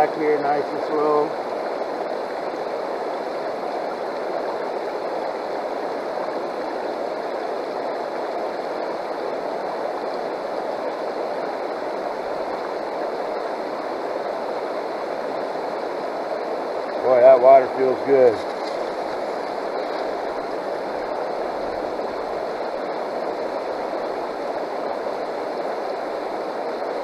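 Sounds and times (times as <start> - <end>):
river water rushing over rocks: 0.0 - 27.0.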